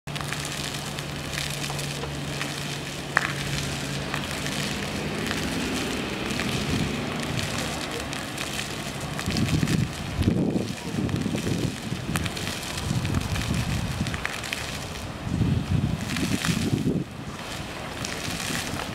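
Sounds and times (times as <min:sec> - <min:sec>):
fountain water splashing on paving: 0:00.0 - 0:18.9.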